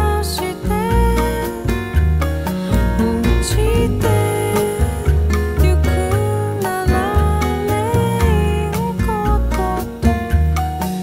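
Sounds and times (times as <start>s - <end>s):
jazz-pop song with singing: 0.0s - 11.0s.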